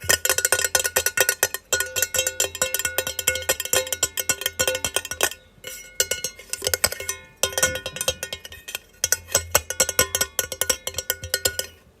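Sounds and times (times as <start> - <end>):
metal plate clicking and ringing: 0.0 - 12.0.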